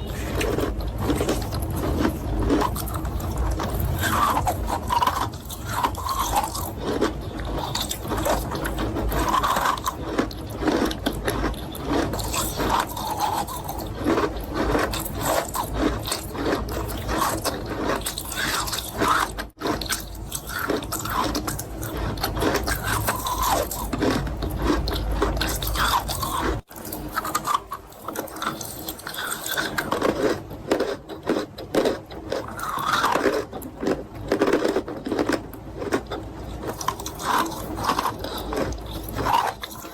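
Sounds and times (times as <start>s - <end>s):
person crunching and chewing chalk: 0.0s - 39.9s.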